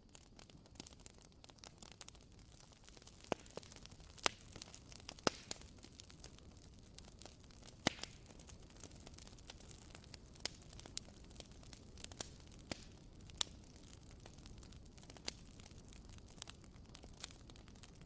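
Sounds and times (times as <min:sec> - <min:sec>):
candle wick crackling pops: 0:00.0 - 0:18.0
low steady hiss: 0:00.0 - 0:18.0.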